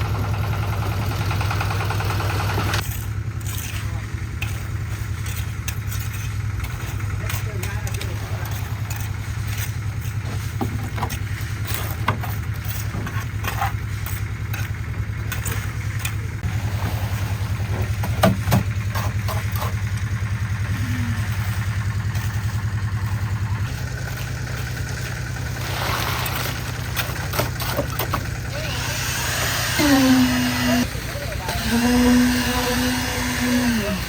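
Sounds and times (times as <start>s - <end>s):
concrete mixer humming: 0.0s - 34.0s.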